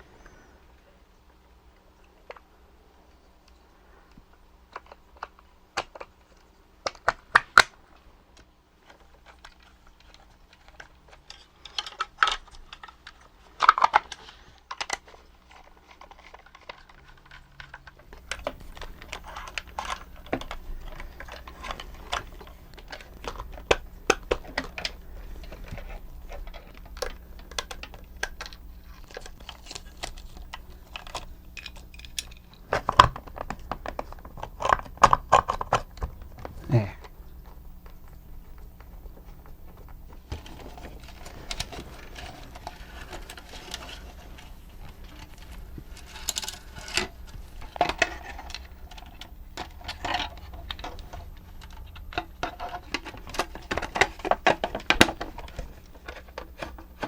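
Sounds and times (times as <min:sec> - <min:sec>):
faint low hum: 0:00.0 - 0:57.0
plastic parts and tools clattering: 0:08.4 - 0:57.0.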